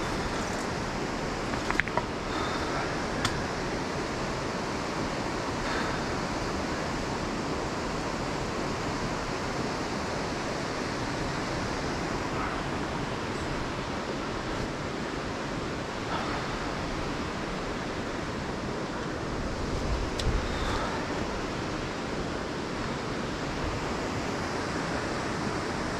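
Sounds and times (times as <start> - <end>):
whitewater rushing: 0.0 - 25.9.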